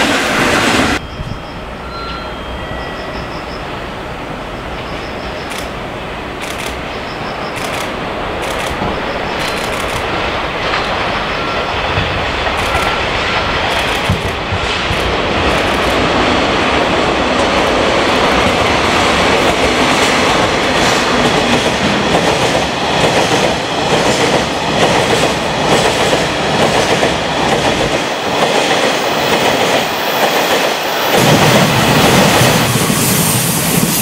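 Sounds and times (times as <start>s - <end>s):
diesel locomotive passing: 0.0s - 34.0s.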